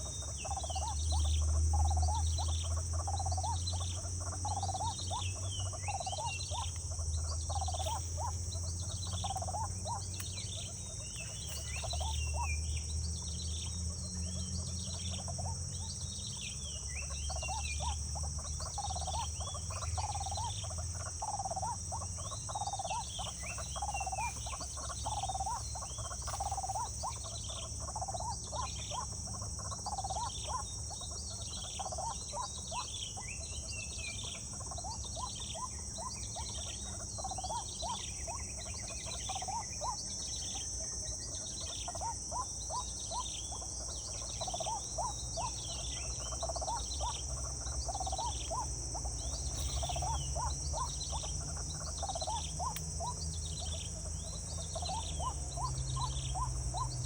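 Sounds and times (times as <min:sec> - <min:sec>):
high-pitched insect drone: 0:00.0 - 0:57.0
short chirping calls: 0:00.0 - 0:57.0.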